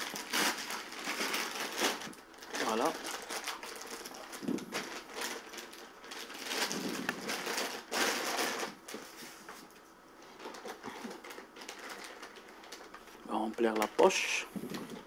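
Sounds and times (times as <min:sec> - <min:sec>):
plastic bag rustling and crinkling: 0:00.0 - 0:15.0.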